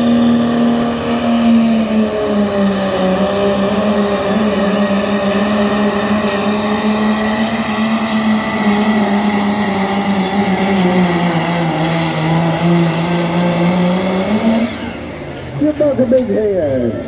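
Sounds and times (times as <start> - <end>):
diesel engine at full throttle: 0.0 - 17.0.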